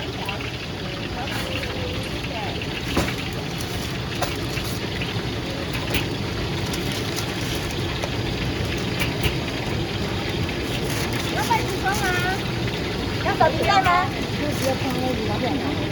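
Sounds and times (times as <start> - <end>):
steady noisy din: 0.0 - 15.9.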